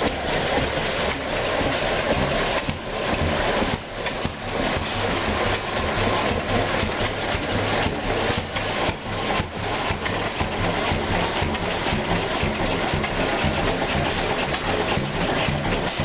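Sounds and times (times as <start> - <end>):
stationary gas engine chugging: 0.0 - 16.0.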